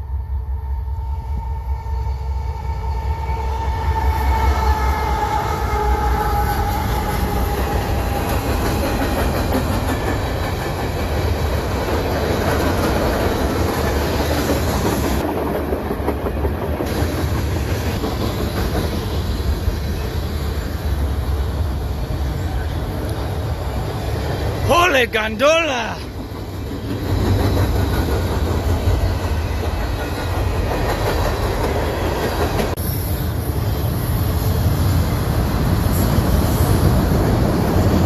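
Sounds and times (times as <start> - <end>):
freight train rumbling past: 0.0 - 38.0.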